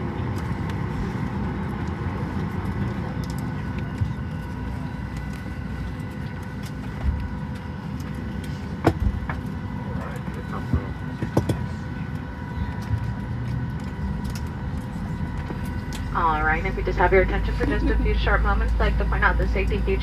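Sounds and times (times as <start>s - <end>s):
cabin air supply rumble: 0.0s - 20.0s.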